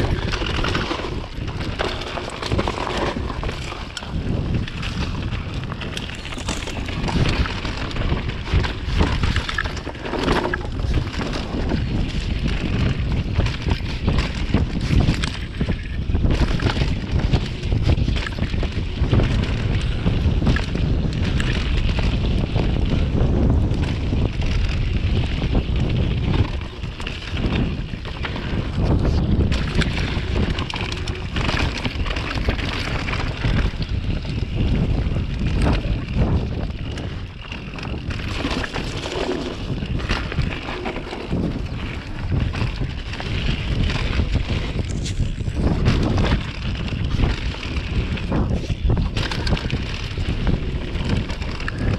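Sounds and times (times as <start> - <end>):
tyres rolling over wet dirt: 0.0 - 15.7, 16.7 - 51.9
bike rattling over bumps: 0.0 - 51.9
wind rushing over microphone: 0.0 - 51.9.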